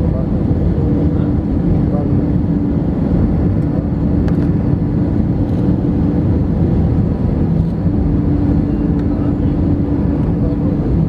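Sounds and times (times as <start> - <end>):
jet engine roar: 0.0 - 11.0
steady cabin hum: 0.0 - 11.0.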